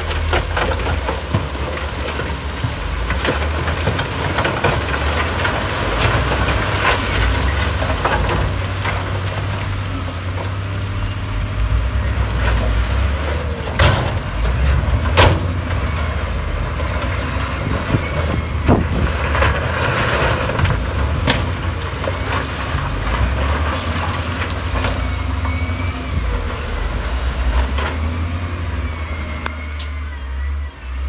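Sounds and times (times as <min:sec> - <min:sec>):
diesel machinery engine rumble: 0:00.0 - 0:31.0.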